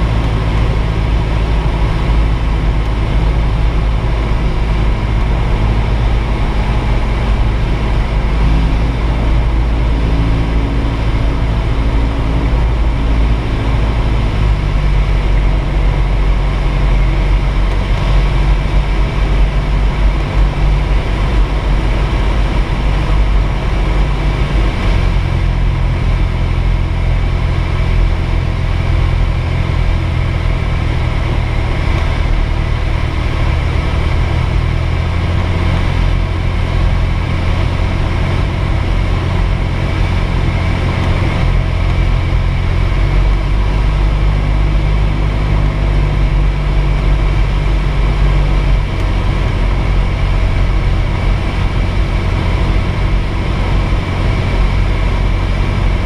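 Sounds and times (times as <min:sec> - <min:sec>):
propeller engine from cockpit: 0:00.0 - 0:56.0.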